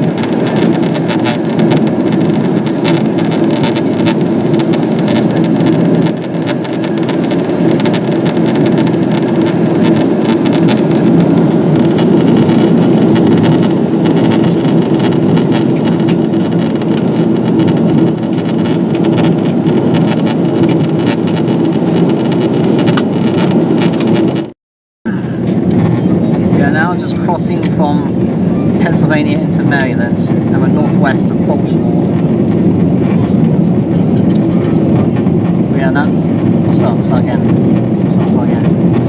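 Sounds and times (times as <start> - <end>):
airflow and engine noise: 0.0 - 39.0
low hum: 0.0 - 39.0.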